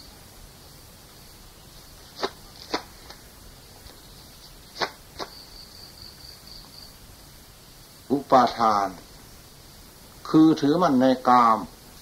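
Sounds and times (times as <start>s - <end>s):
faint high whine: 0.0s - 12.0s
recording hiss: 0.0s - 12.0s.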